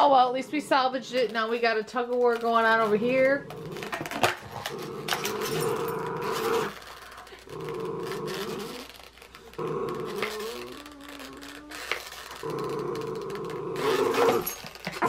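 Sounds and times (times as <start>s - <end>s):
plastic bottle crackling: 0.7s - 15.0s
dogs growling: 2.8s - 15.0s.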